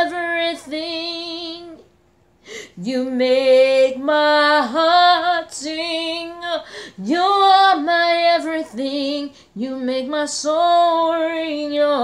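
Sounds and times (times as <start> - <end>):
woman singing unaccompanied: 0.0 - 1.9, 2.7 - 12.0.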